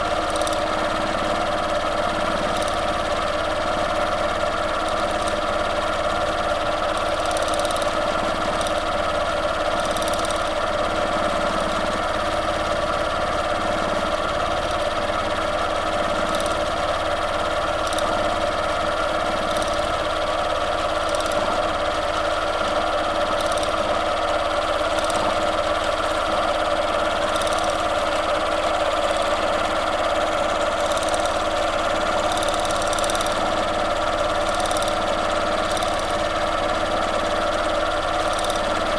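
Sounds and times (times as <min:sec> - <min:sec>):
sewing machine running: 0:00.0 - 0:38.9.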